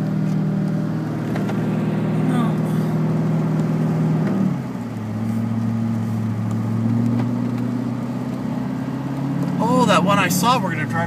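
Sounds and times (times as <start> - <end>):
car engine hum: 0.0 - 11.0
road noise inside car: 0.0 - 11.0.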